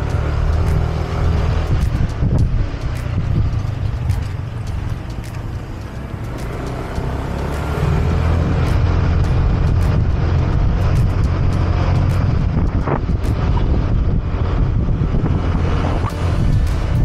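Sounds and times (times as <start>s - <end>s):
motorcycle engine: 0.0s - 17.0s
wind rumble: 0.0s - 17.0s.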